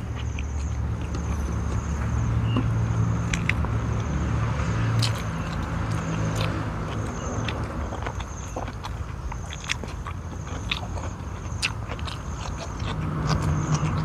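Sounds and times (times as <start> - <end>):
eating by hand clicks and smacks: 0.0 - 14.0
motor engine droning: 0.0 - 14.0.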